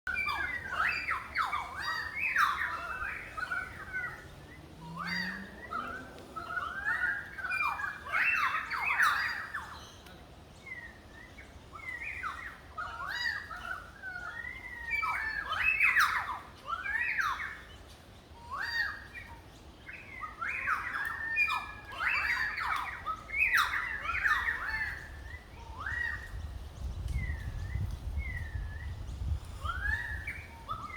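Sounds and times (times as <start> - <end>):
currawong whistled calls: 0.1 - 30.9.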